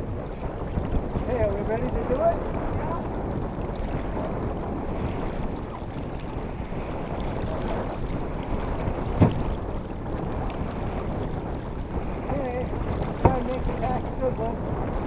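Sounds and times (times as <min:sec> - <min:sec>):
water rushing along hull: 0:00.0 - 0:15.0
wind noise on microphone: 0:00.0 - 0:15.0.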